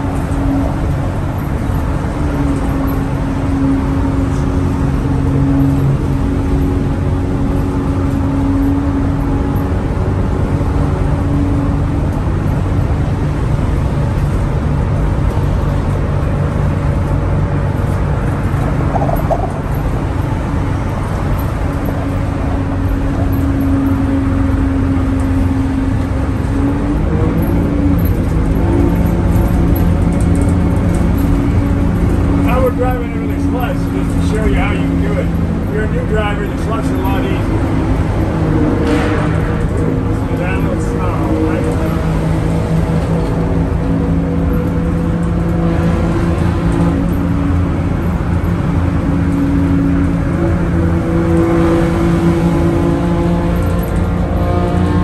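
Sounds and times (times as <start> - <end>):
bus engine droning: 0.0 - 55.0
road rumble: 0.0 - 55.0.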